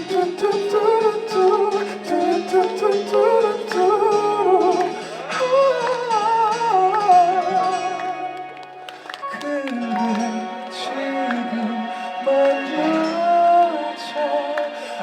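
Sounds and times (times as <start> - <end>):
wordless vocal melody: 0.0 - 15.0.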